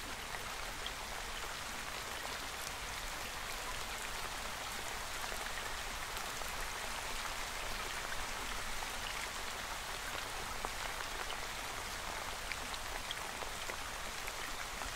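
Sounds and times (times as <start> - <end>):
steady rain: 0.0 - 14.9.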